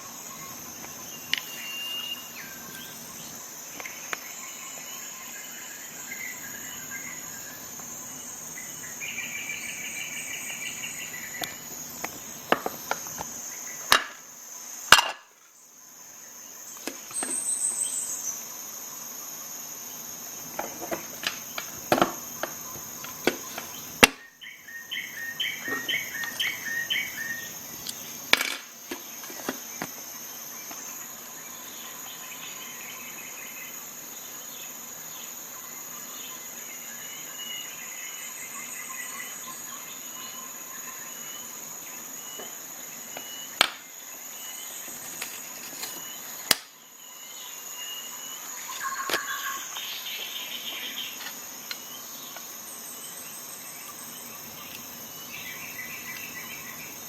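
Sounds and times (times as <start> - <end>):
birds chirping: 0.0 - 14.0, 20.4 - 57.0
insects droning: 0.0 - 57.0.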